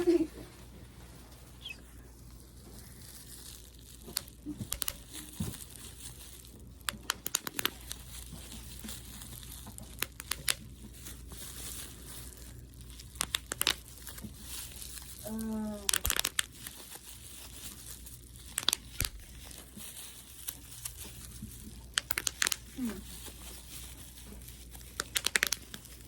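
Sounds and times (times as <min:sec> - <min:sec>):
packaging crinkling and crackling: 0:01.6 - 0:26.0.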